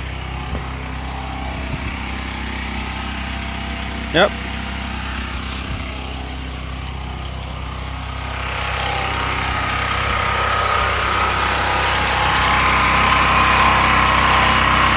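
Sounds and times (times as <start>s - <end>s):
portable generator running: 0.0s - 14.9s.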